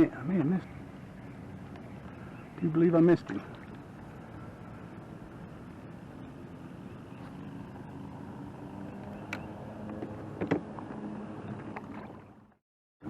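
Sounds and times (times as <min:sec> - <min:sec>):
boat motor running: 0:00.0 - 0:12.6
water noise: 0:00.0 - 0:12.6.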